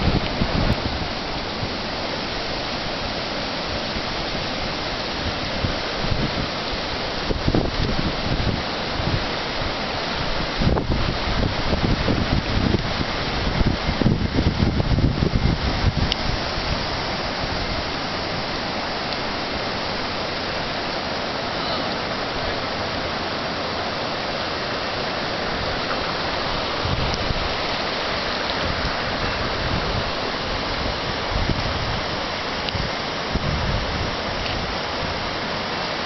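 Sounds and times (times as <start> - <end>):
wind buffeting microphone: 0.0 - 21.1, 24.6 - 35.7
fast-flowing floodwater rushing: 0.0 - 36.0.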